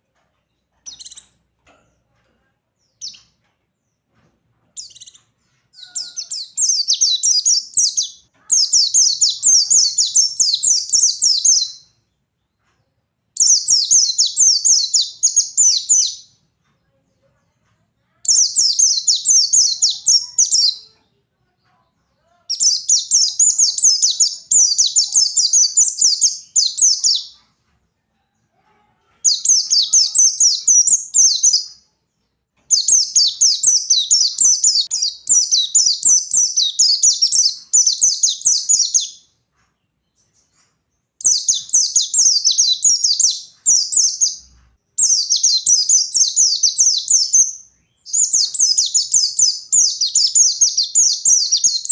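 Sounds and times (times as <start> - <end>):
bird twittering song: 0.8 - 1.4, 2.8 - 4.0, 4.8 - 12.6, 13.4 - 16.4, 18.2 - 20.9, 22.5 - 27.5, 29.2 - 31.9, 32.6 - 39.3, 39.9 - 51.9.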